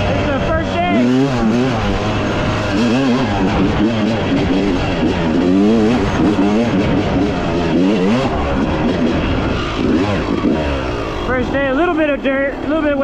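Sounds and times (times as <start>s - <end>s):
off-road engine revving: 0.0s - 13.0s.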